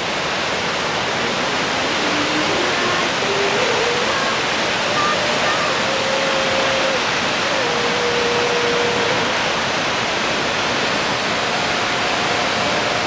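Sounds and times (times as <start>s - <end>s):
waterfall crashing: 0.0s - 13.0s.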